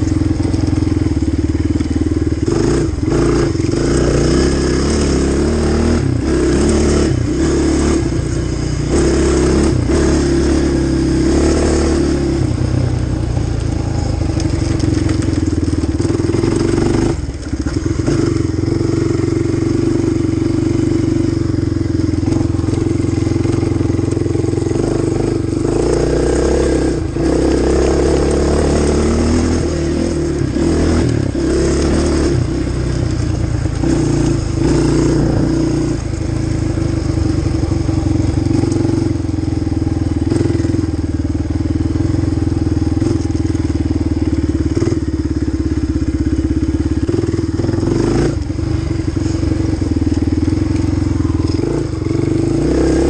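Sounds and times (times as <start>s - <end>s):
quad engine revving: 0.0s - 53.0s.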